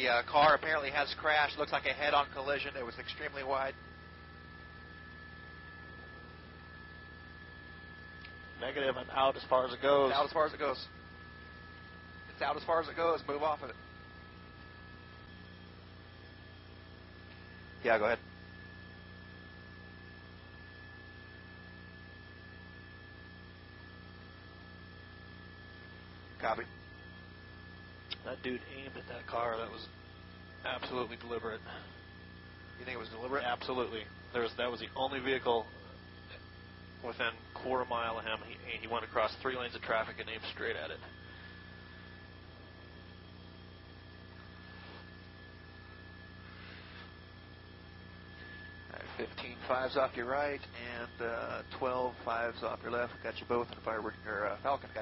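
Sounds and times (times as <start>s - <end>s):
electrical hum and hiss: 0.0s - 55.0s
thin constant high tone: 0.0s - 55.0s.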